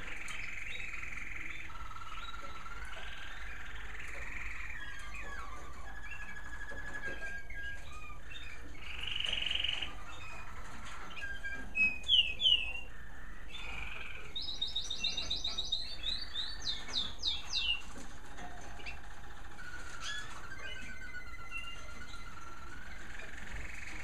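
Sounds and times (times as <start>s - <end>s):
canaries singing: 0.0s - 24.0s.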